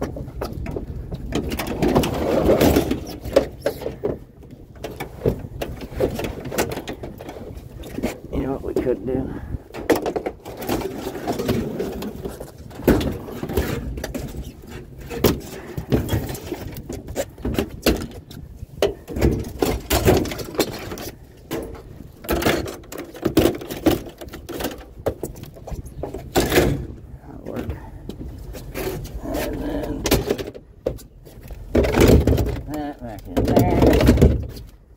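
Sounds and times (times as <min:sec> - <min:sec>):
scrap items knocking and clunking: 0:00.0 - 0:09.0, 0:09.7 - 0:34.7
rustling and scraping: 0:00.0 - 0:34.9.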